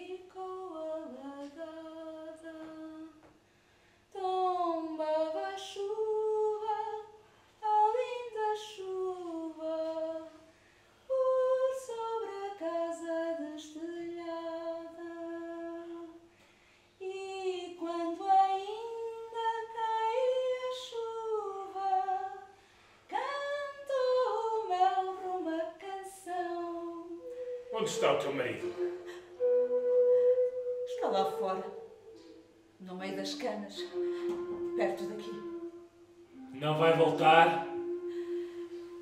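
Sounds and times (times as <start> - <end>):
woman singing unaccompanied: 0.0 - 3.3, 4.1 - 10.5, 11.1 - 16.2, 17.0 - 39.0.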